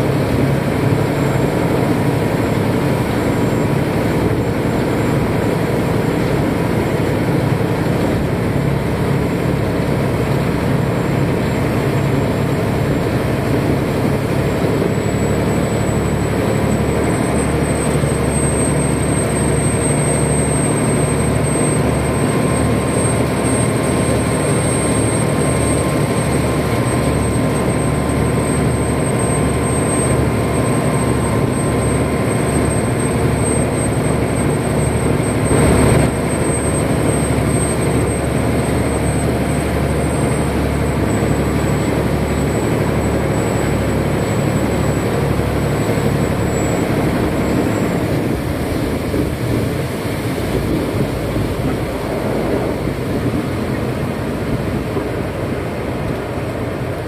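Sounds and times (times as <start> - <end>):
thin high whine: 0.0 - 56.7
boat engine running: 0.0 - 57.0
water rushing past hull: 0.0 - 57.0.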